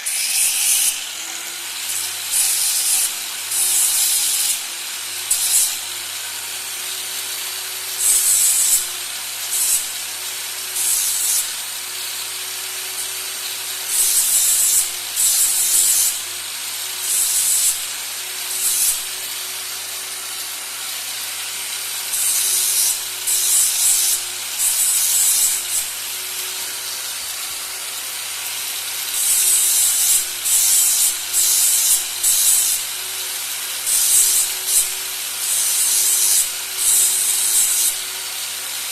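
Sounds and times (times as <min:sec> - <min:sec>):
short abrasive strokes: 0:00.0 - 0:38.5.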